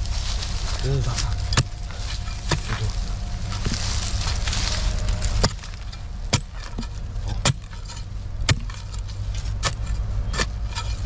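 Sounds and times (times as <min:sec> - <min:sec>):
steady low rumble: 0:00.0 - 0:11.0
digging tool striking soil: 0:01.0 - 0:11.0.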